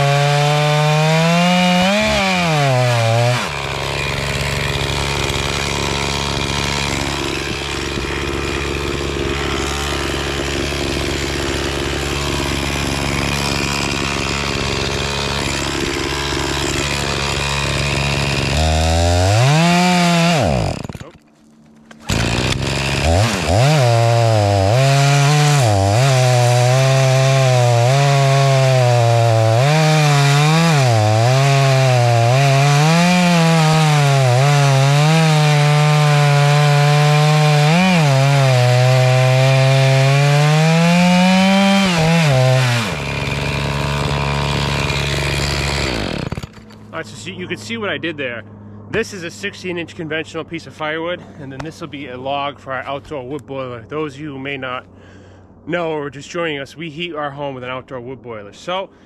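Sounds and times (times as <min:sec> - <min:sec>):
chainsaw cutting wood: 0:00.0 - 0:47.8.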